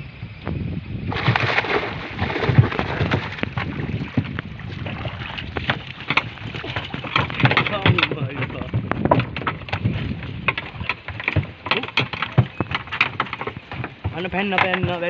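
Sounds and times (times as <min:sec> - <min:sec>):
water splashing and dripping: 0:01.1 - 0:15.0.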